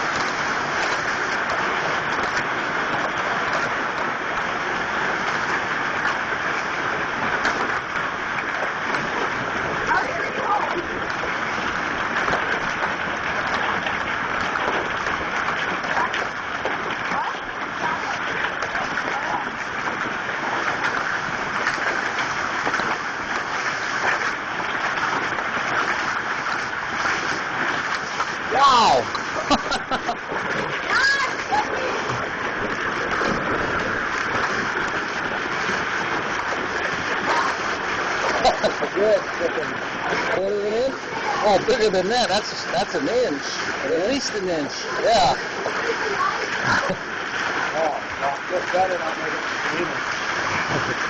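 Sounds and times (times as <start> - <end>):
hailstones ticking: 0.0 - 51.0
rain and hail hissing: 0.0 - 51.0.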